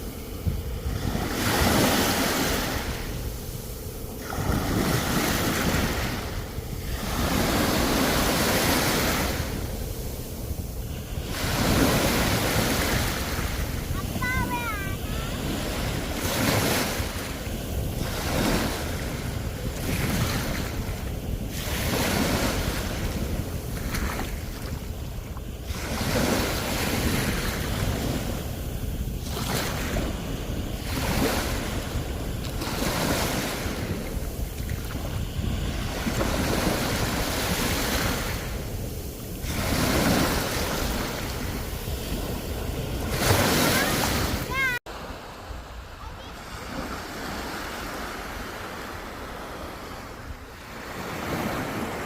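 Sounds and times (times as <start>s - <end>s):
wind buffeting microphone: 0.0s - 44.8s
sea waves breaking on shore: 0.0s - 52.0s.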